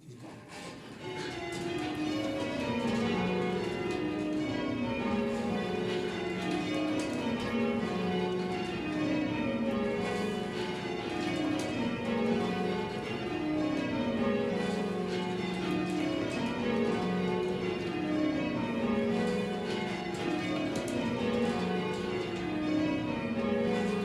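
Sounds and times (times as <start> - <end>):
church bells change ringing: 0.9 - 24.0.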